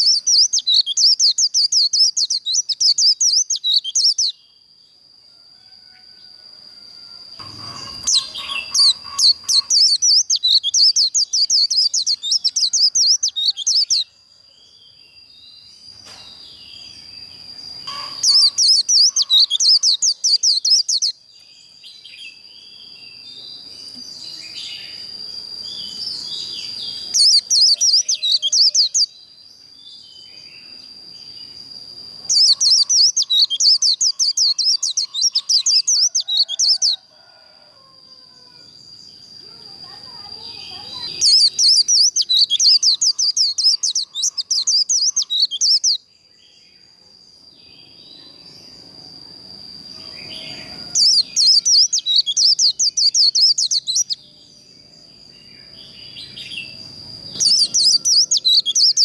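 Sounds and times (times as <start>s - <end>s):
bird chirps: 0.0s - 4.5s, 7.3s - 37.1s, 38.5s - 46.8s, 49.9s - 59.0s
bird twittering song: 0.0s - 4.6s, 7.3s - 37.1s, 38.8s - 46.9s, 49.9s - 59.0s
thin steady high tone: 0.0s - 15.4s, 16.8s - 21.5s, 30.3s - 59.0s.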